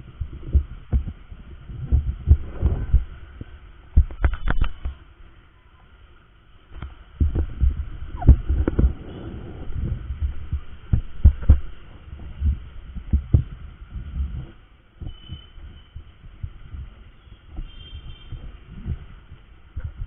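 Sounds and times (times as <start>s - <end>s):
muffled thumps buffeting microphone: 0.0s - 5.4s, 6.7s - 20.0s.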